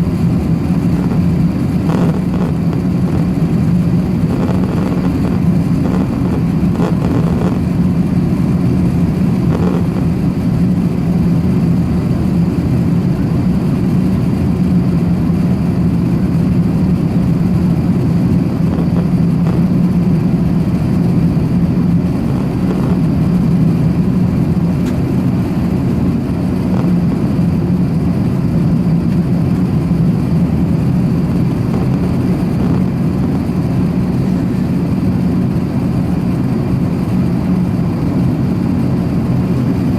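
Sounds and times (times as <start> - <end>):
aircraft cabin drone: 0.0 - 39.9.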